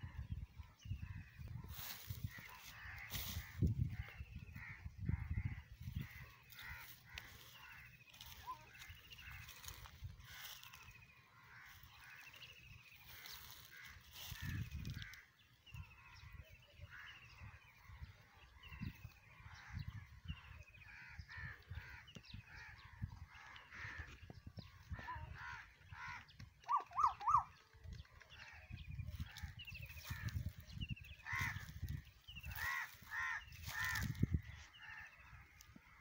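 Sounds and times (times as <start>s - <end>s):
crows cawing: 1.1s - 27.5s, 28.4s - 36.0s.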